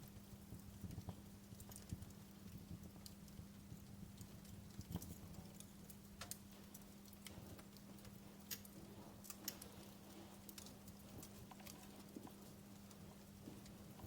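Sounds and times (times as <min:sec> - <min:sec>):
faint low hum: 0:00.0 - 0:14.0
wood fire crackling: 0:00.0 - 0:14.0.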